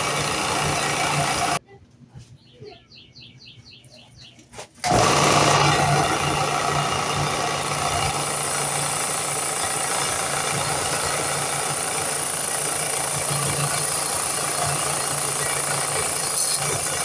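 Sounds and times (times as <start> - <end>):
power tool grinding: 0.0 - 1.6, 4.8 - 17.0.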